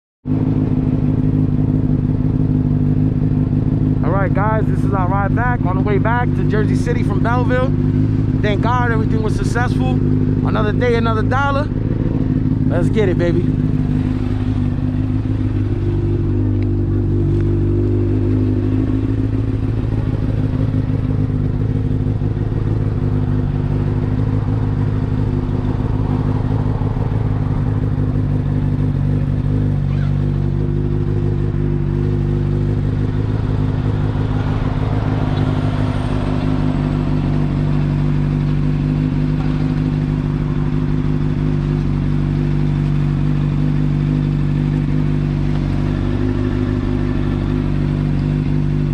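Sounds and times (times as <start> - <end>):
motorcycle engine running: 0.2 - 48.9.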